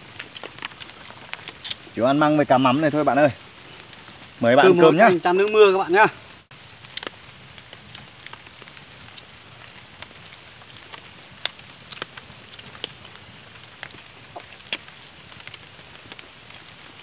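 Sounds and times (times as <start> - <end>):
sharp drips and ticks: 0.0 - 17.0
steady rain falling: 0.0 - 17.0.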